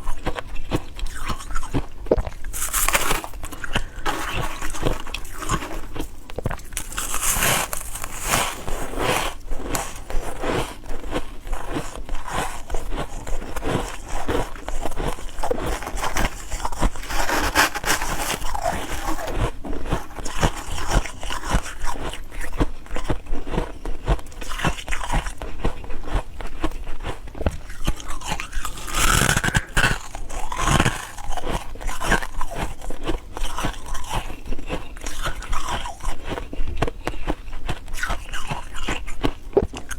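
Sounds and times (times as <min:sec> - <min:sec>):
ice cubes crunching: 0:01.0 - 0:25.9, 0:26.6 - 0:39.9.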